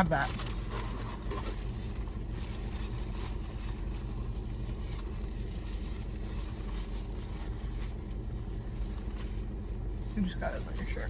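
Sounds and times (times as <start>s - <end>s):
car idling hum: 0.0s - 11.0s.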